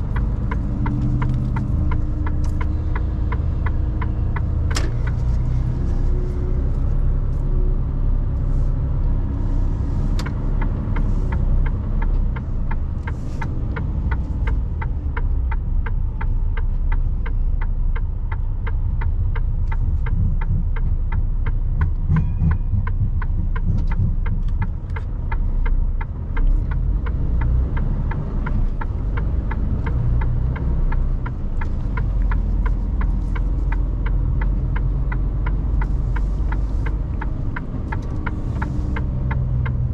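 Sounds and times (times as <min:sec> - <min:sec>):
truck engine and road rumble: 0:00.0 - 0:39.9
turn indicator ticking: 0:00.0 - 0:39.9.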